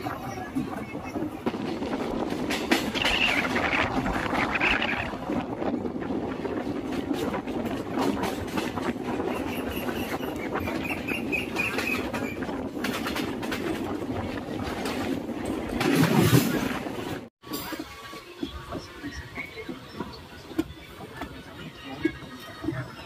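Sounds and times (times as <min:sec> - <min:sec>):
train rumbling along track: 0:00.0 - 0:23.0
wheels clicking over rail joints: 0:00.0 - 0:23.0.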